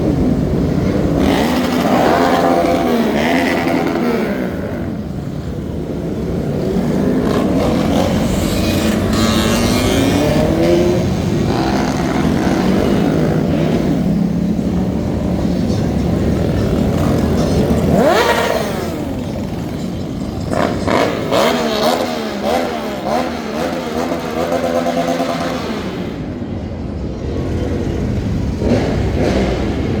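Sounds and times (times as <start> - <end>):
motorcycles revving and passing: 0.0 - 30.0.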